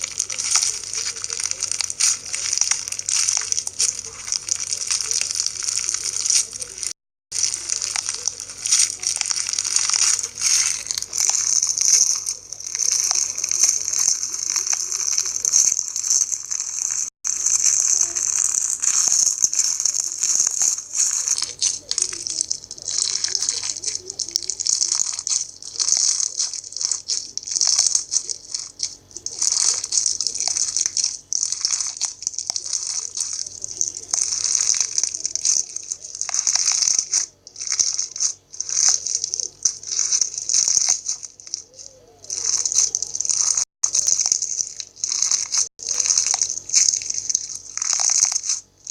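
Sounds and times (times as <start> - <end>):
slime crackling when squeezed: 0.0 - 48.9.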